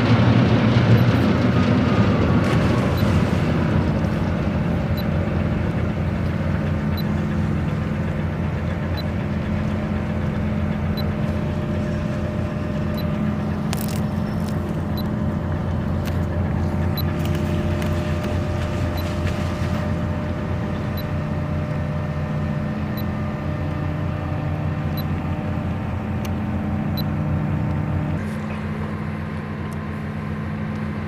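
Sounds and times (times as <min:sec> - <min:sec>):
ship engines droning: 0:00.0 - 0:31.0.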